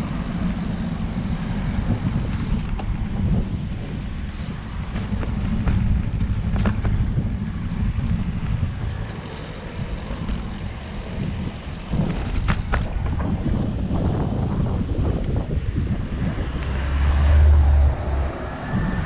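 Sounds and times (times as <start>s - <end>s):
bike road noise: 0.0s - 19.0s
wind rumbling on microphone: 0.0s - 19.0s.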